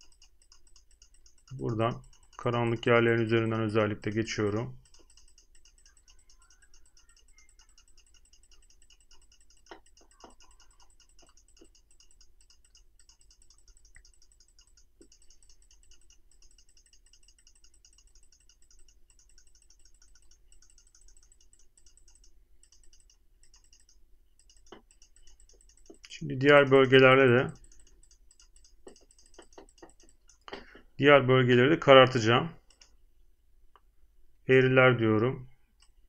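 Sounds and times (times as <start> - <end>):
rapid high-pitched ticking: 0.0 - 30.5
faint clicks: 0.0 - 30.9, 32.6 - 33.0, 35.8 - 36.0.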